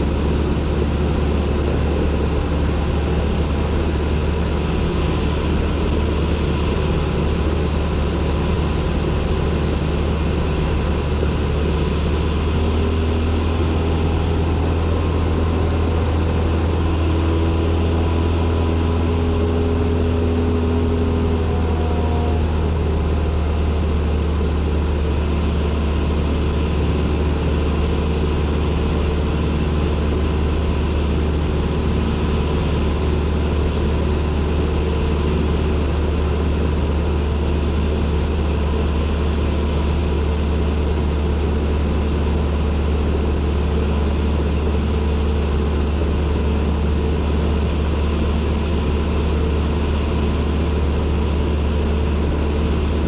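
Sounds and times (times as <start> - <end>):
light aircraft engine drone: 0.0 - 53.0.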